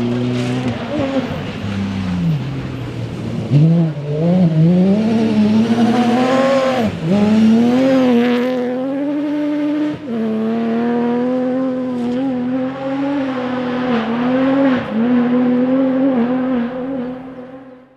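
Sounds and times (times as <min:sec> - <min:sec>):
rally car engine at high revs: 0:00.0 - 0:17.9.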